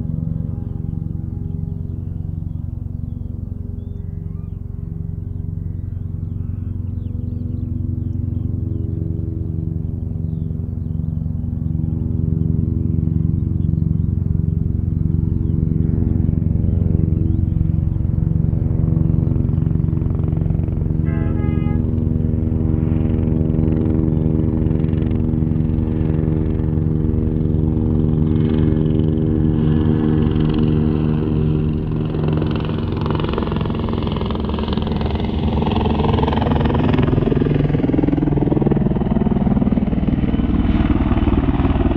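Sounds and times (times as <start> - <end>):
helicopters hovering: 0.0 - 41.9.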